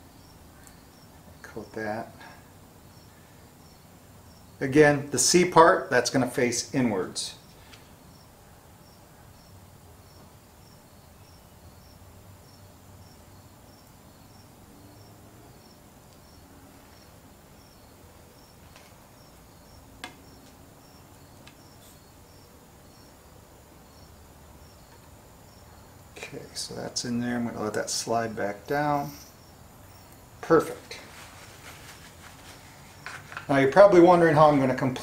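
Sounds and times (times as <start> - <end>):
cricket chirping: 0.0 - 4.6, 7.4 - 33.6
low room hum: 0.0 - 35.0.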